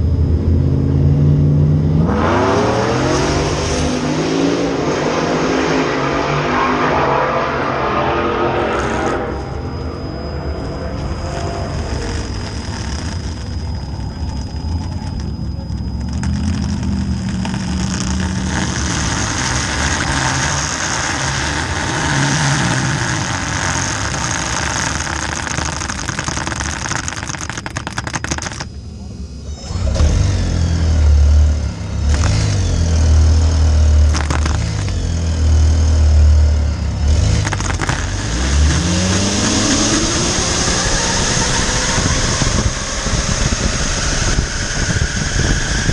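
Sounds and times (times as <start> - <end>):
heavy deep rumble: 0.0 - 27.3, 28.4 - 45.9
car engines running: 0.0 - 45.9
engine revving up: 0.9 - 26.2, 29.4 - 45.9.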